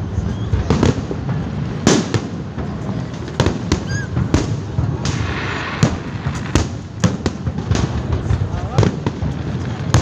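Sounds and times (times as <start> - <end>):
fireworks bangs: 0.0 - 10.0
fireworks hissing crackle: 0.0 - 10.0.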